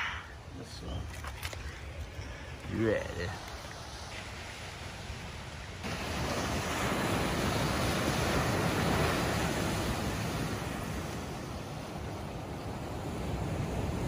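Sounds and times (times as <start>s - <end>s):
ocean surf breaking: 2.1s - 14.0s.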